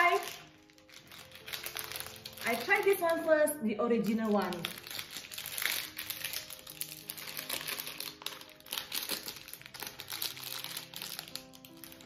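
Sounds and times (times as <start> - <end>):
plastic pack crinkling: 0.0 - 12.0.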